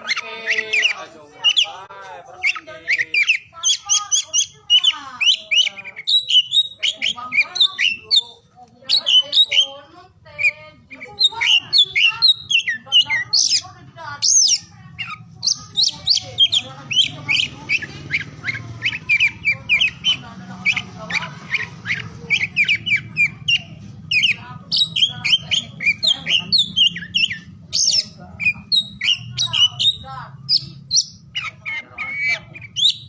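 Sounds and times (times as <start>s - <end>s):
magpie-robin singing: 0.0s - 33.0s.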